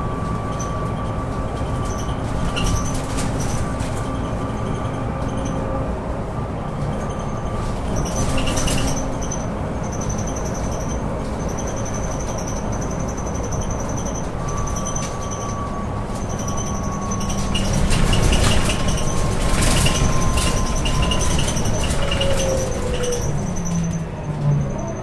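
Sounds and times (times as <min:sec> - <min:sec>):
bus running along: 0:00.0 - 0:25.0.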